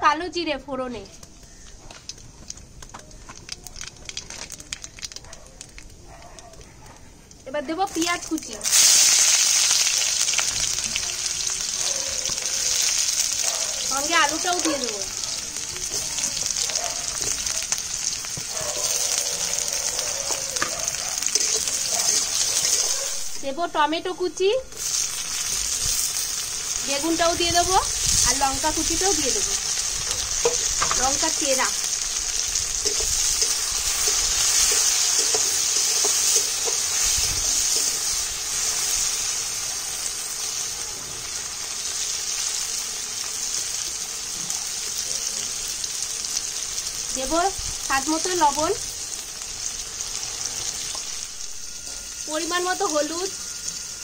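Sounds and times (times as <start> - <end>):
onions sizzling in hot oil: 0.0 - 6.0, 7.1 - 54.0
crackles: 0.8 - 23.6, 24.6 - 54.0.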